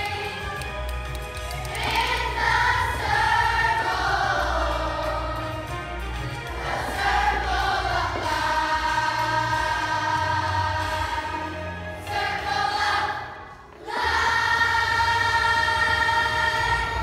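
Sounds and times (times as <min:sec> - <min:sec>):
accompanying music: 0:00.0 - 0:17.0
children's choir singing: 0:00.0 - 0:17.0.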